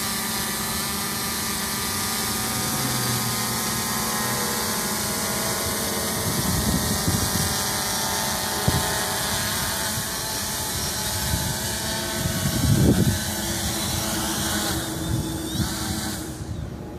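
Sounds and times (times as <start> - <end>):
drone propellers whirring: 0.0 - 16.9.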